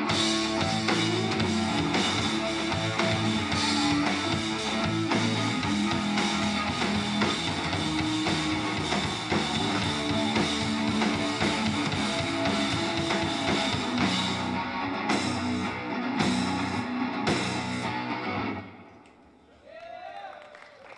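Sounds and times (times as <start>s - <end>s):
drum kit: 0.0s - 18.5s
bass guitar: 0.0s - 18.9s
electric guitar: 0.0s - 19.0s.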